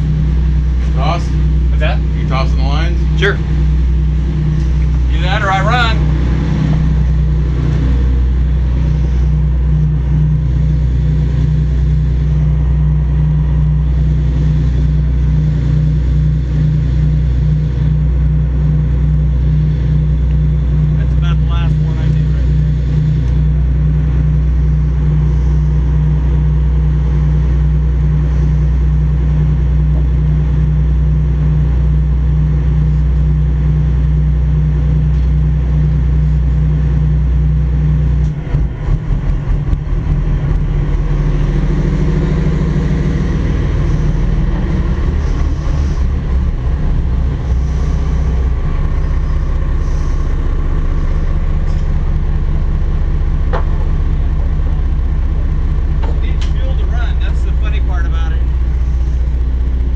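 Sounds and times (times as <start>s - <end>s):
diesel engines idling: 0.0s - 59.9s.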